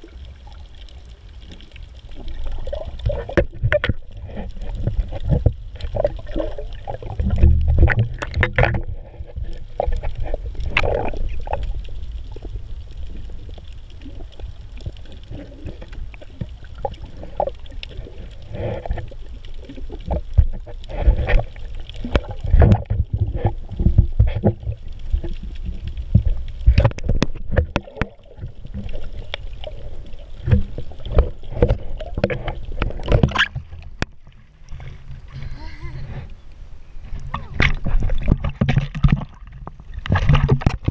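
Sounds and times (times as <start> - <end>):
underwater rumble of moving water: 0.0 - 40.9
underwater clicks and knocks: 1.4 - 35.4, 37.0 - 40.9.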